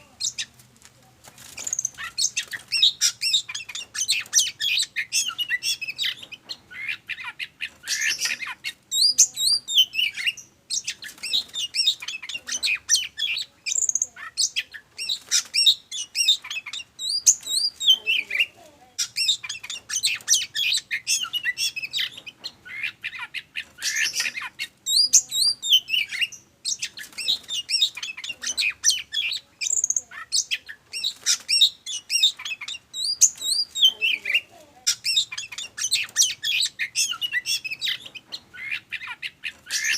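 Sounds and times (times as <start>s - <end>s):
bird singing: 1.5s - 39.9s.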